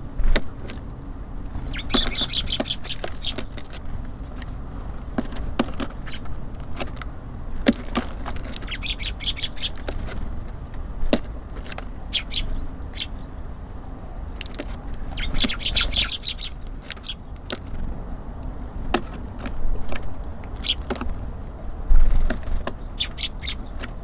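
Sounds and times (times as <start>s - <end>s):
low background rumble: 0.0s - 24.0s
songbirds chirping: 0.0s - 24.0s.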